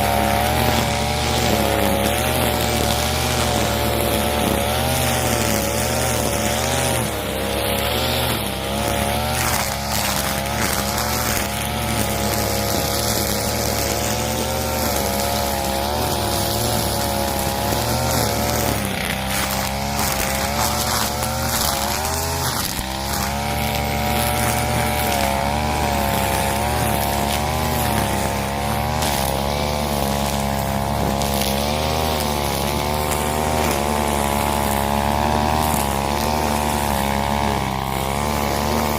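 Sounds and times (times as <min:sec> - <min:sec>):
brush cutter running: 0:00.0 - 0:38.9.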